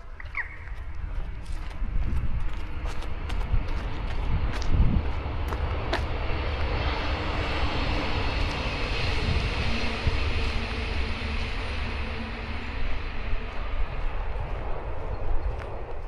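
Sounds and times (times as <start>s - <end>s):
aircraft engine droning overhead: 0.0s - 16.0s.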